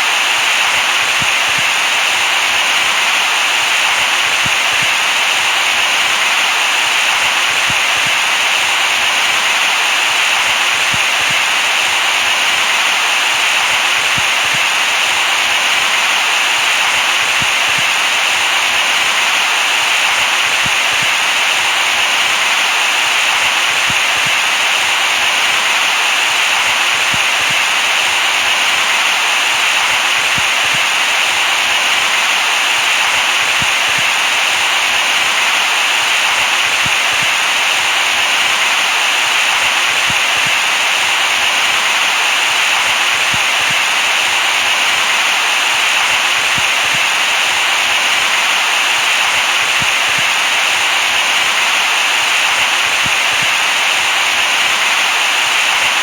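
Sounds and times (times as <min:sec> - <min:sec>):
loud white-noise hiss: 0:00.0 - 0:56.0.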